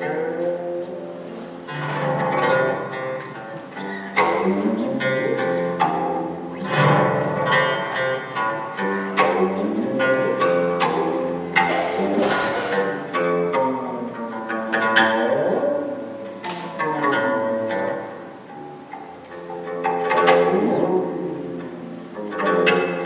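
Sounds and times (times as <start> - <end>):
low bowed string instrument: 0.0 - 23.0
plucked zither: 0.0 - 23.0.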